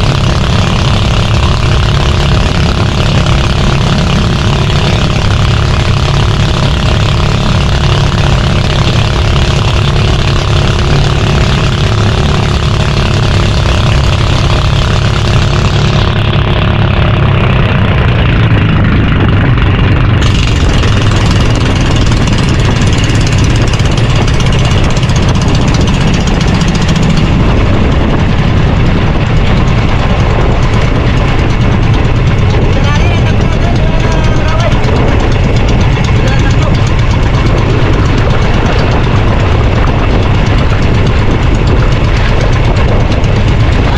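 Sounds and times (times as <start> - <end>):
boat engine running: 0.0 - 43.9
high steady engine hum: 0.0 - 43.9.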